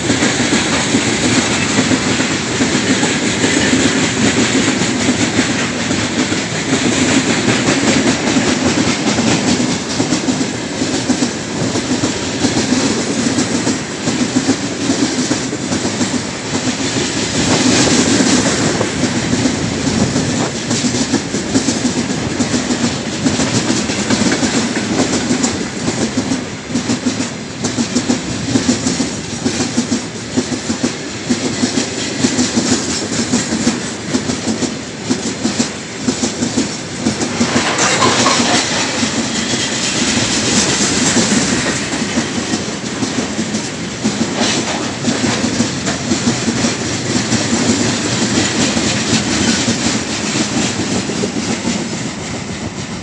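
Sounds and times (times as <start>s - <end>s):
continuous rumble of train: 0.0s - 53.0s
train wheels clicking over rail joints: 0.0s - 53.0s.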